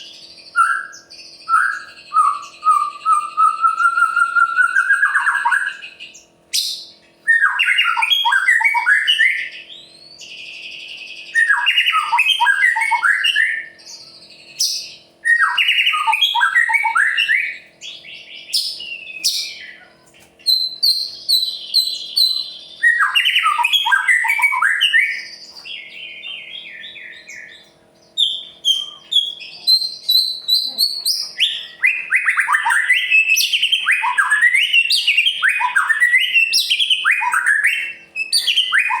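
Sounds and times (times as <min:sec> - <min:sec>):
bird singing rapid sweeping notes: 0:00.0 - 0:39.0.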